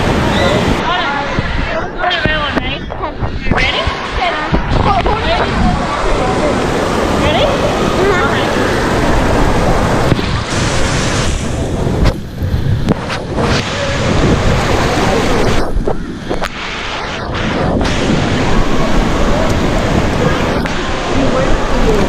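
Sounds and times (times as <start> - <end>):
rushing water and splashing: 0.0 - 22.0
wind buffeting microphone: 0.0 - 22.0.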